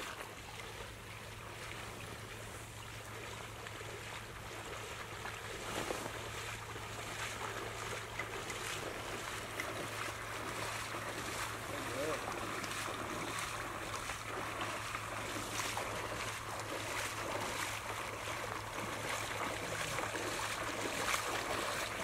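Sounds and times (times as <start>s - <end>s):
steady low hum: 0.0s - 22.0s
wading through shallow water: 0.0s - 22.0s.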